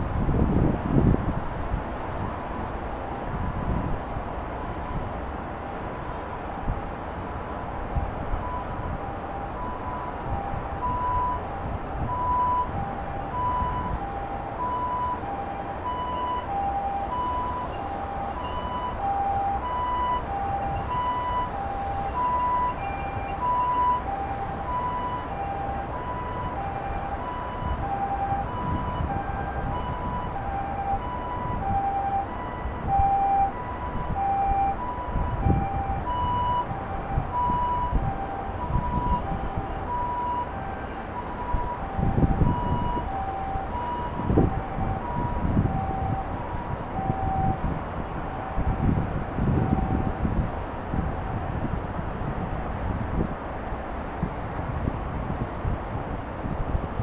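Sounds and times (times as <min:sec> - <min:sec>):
street noise rumble: 0:00.0 - 0:57.0
two-tone ambulance siren: 0:00.2 - 0:57.0.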